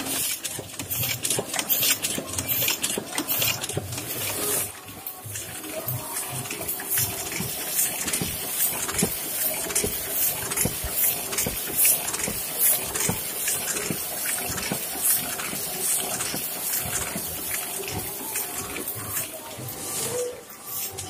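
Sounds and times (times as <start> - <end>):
printing press mechanical hum: 0.0 - 21.0.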